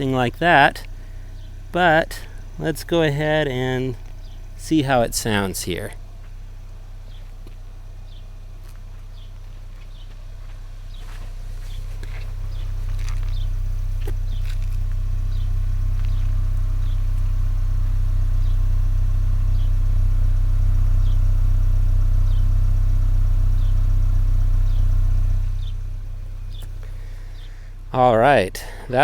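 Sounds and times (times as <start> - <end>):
car exhaust idling: 0.0 - 29.0.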